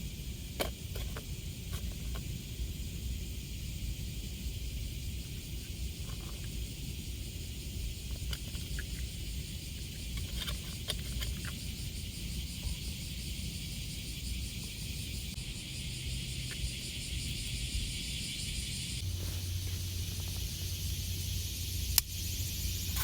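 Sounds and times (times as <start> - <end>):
insects buzzing: 0.0 - 23.0
low outdoor rumble: 0.0 - 23.0.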